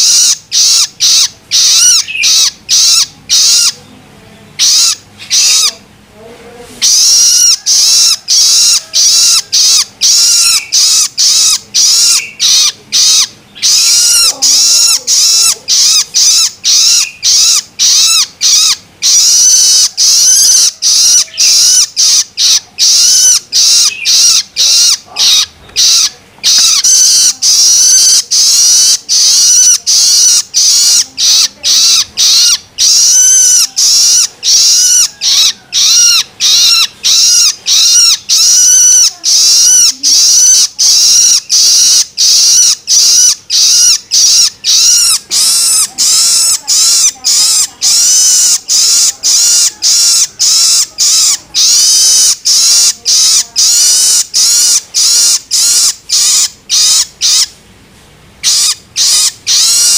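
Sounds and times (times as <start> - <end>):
young bird begging calls: 0.0 - 3.9, 4.5 - 5.9, 6.8 - 57.6, 58.4 - 59.9.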